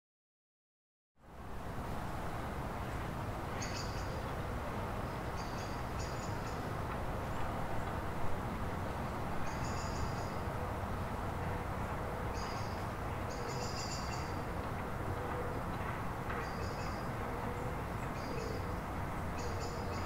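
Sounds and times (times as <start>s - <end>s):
outdoor background noise: 1.2s - 20.0s.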